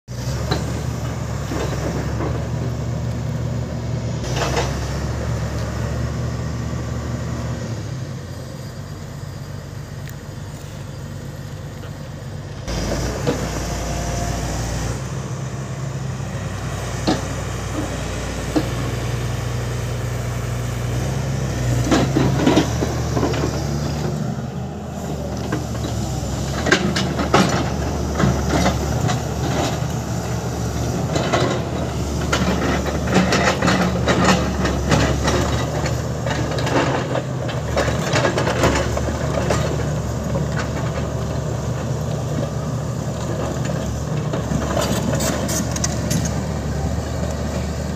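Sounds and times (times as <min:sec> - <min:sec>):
excavator diesel engine running: 0:00.1 - 0:47.9.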